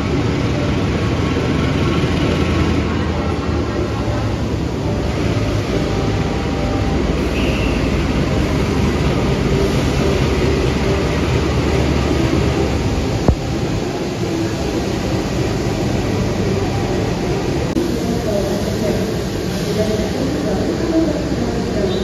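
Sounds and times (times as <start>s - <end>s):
diesel engine rumble: 0.0s - 22.0s.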